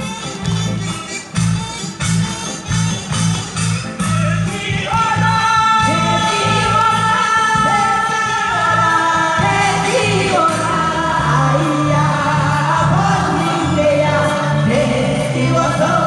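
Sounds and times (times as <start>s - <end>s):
song with singing voices: 0.0s - 16.0s.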